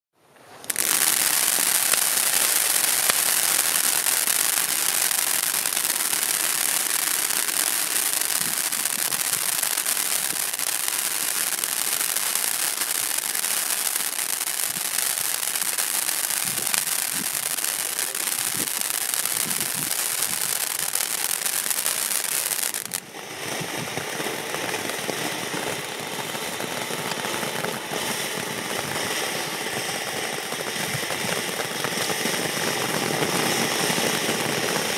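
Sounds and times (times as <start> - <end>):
firework crackling: 0.4 - 34.9
firework fountain hissing: 0.4 - 34.9.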